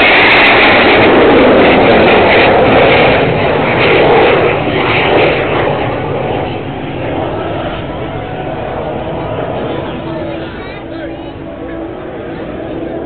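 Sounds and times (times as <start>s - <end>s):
airplane flying past: 0.0s - 13.0s.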